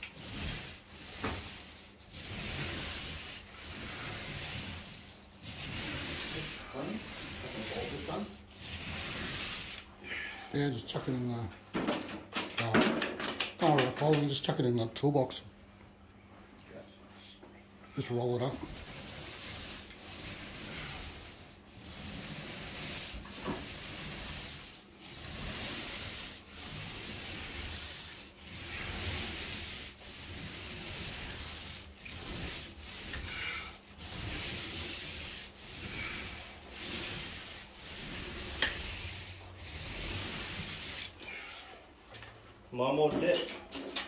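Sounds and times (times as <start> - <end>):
paint roller rubbing on ceiling: 0.0 - 11.4, 17.9 - 41.9.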